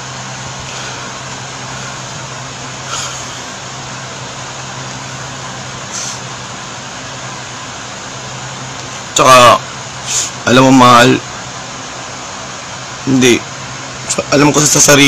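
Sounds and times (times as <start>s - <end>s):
room hiss with low hum: 0.0s - 15.0s.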